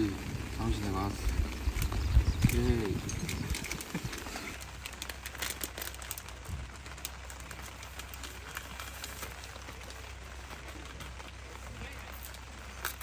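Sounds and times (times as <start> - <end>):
foil packet tearing and rustling: 0.7 - 13.0.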